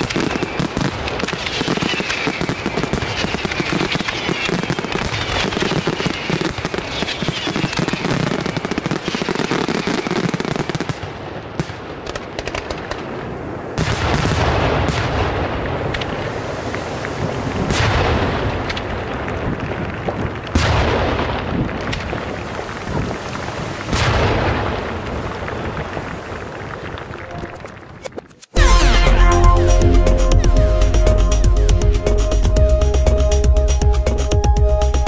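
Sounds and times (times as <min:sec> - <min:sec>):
fireworks booms with echoes: 0:00.0 - 0:34.7
fireworks crackling: 0:00.0 - 0:35.0.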